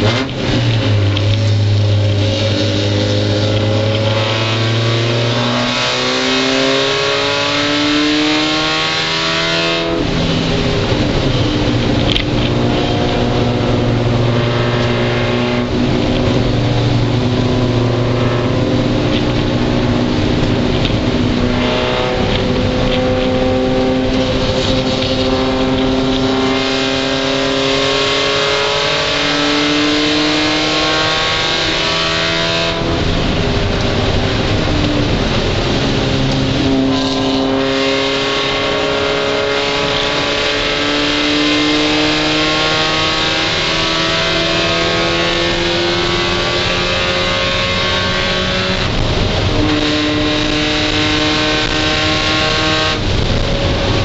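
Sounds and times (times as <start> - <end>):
race car engine pulling hard: 0.0 - 54.0.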